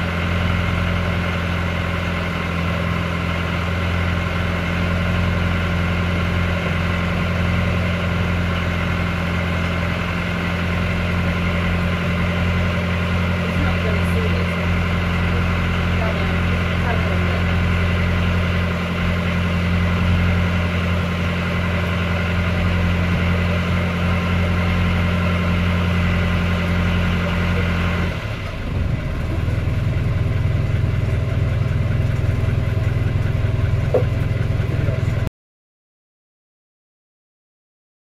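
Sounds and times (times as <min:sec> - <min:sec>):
boat diesel engine running: 0:00.0 - 0:35.3.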